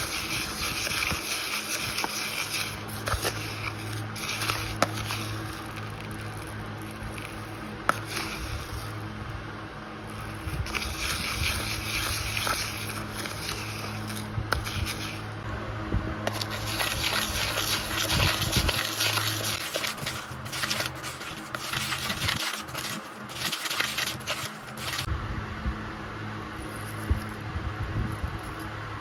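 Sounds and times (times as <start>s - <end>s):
food preparation scraping: 0.0s - 9.0s, 10.1s - 15.4s, 16.2s - 25.1s
steady low hum: 0.0s - 29.0s.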